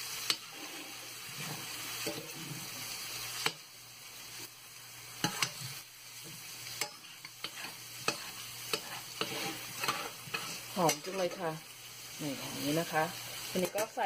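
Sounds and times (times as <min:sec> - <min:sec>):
spatula scraping a pan: 0:00.0 - 0:03.6, 0:05.1 - 0:11.6, 0:12.3 - 0:14.0
food sizzling in a frying pan: 0:00.0 - 0:14.0.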